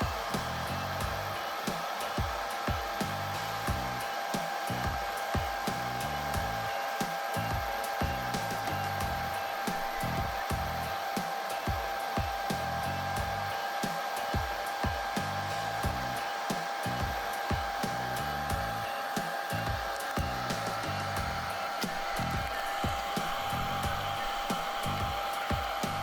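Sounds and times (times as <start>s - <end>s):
background music with beat: 0.0s - 26.0s
hair dryer running: 0.0s - 26.0s.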